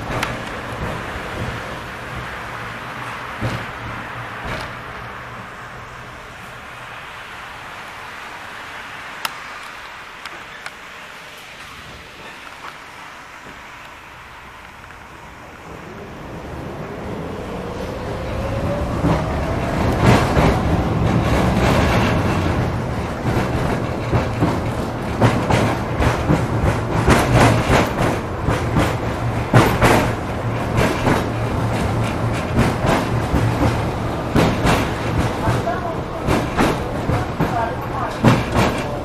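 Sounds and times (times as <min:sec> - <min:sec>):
tram wheels rumbling on rails: 0:00.0 - 0:39.0.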